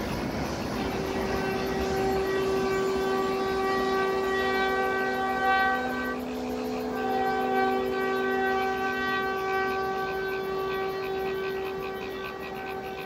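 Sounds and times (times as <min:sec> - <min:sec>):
train horn blast: 0:00.0 - 0:13.0.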